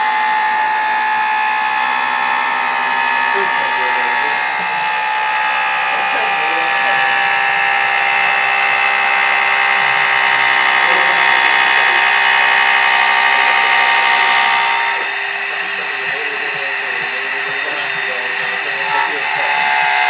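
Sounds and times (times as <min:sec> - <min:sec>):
cnc machine motor whine: 0:00.0 - 0:20.0.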